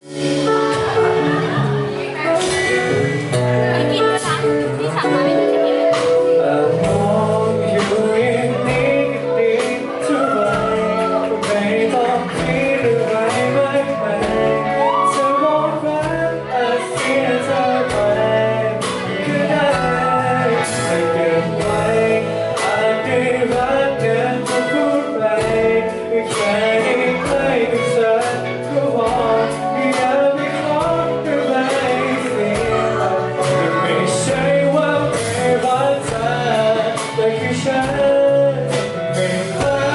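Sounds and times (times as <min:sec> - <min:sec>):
live band playing pop song: 0:00.0 - 0:39.9
person singing: 0:00.0 - 0:39.9
steady drum beat: 0:00.0 - 0:39.9.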